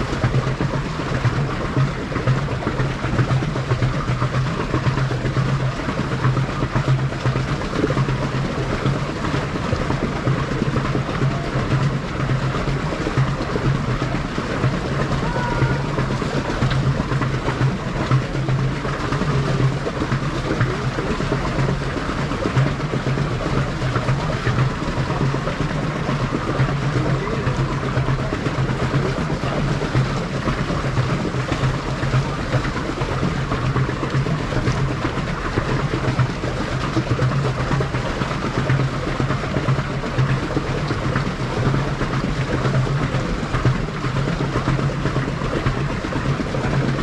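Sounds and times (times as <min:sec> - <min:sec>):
boat engine hum: 0:00.0 - 0:47.0
water rushing: 0:00.0 - 0:47.0.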